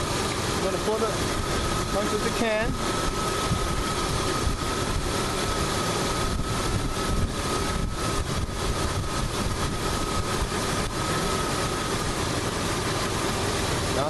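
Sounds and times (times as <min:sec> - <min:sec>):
air conditioning blower hiss: 0:00.0 - 0:14.0
thin steady whine: 0:00.0 - 0:14.0.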